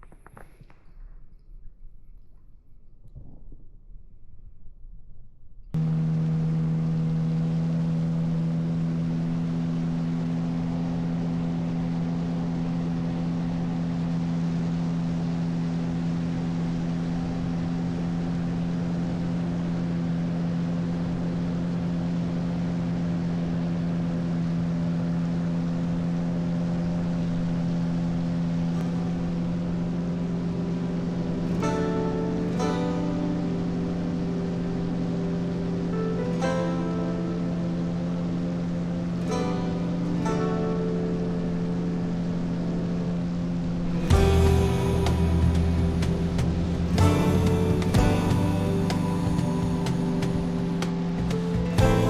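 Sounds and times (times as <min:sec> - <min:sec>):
outboard engine running: 0:05.8 - 0:52.0
water and wind hiss: 0:05.8 - 0:52.0.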